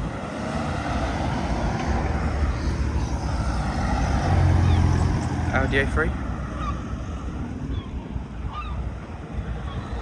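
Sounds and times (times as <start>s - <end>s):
car engines passing: 0.0s - 10.0s.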